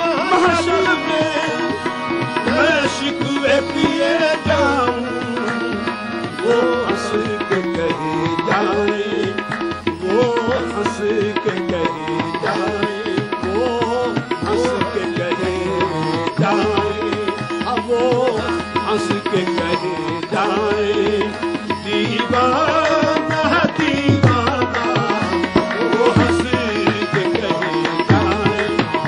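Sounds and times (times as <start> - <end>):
harmonium melody: 0.0 - 29.0
tabla rhythm: 0.0 - 29.0.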